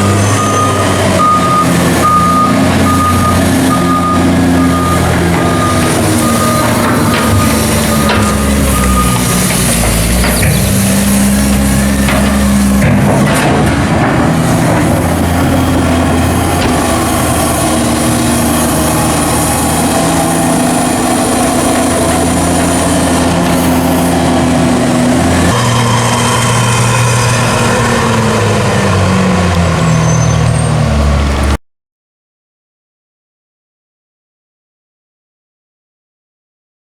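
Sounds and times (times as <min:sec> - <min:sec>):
heavy diesel farm machinery running: 0:00.0 - 0:31.6.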